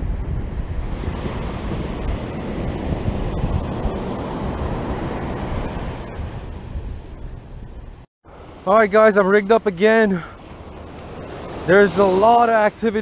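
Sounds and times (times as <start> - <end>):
wind buffeting microphone: 0.0 - 8.6, 10.4 - 13.0
ocean surf breaking: 0.0 - 13.0.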